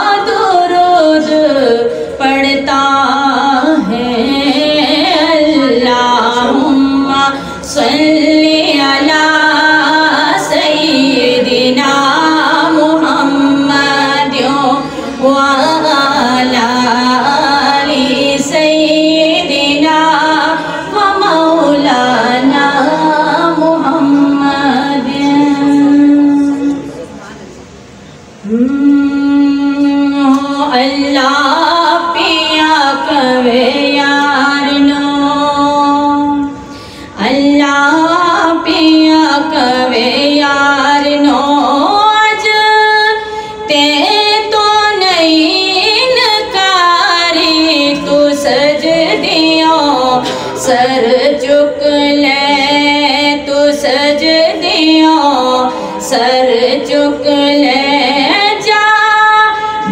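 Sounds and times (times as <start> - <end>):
woman singing devotional song: 0.0 - 27.0, 28.4 - 59.9.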